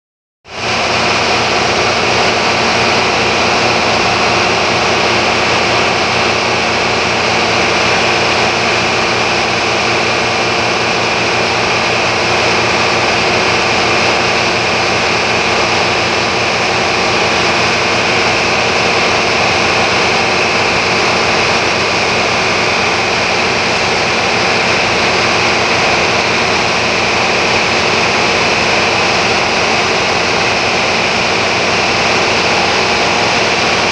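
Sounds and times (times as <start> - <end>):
motor boat engine humming: 0.6 - 33.9.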